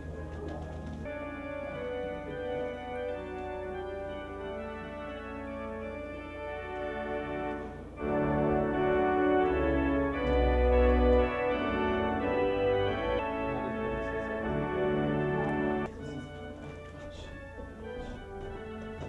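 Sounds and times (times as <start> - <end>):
organ playing slow chords: 0.0 - 16.0.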